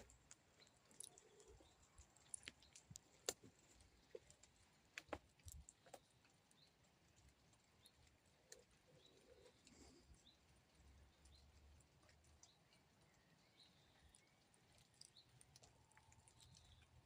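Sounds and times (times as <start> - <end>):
faint clicks and ticks: 0.0 - 17.0.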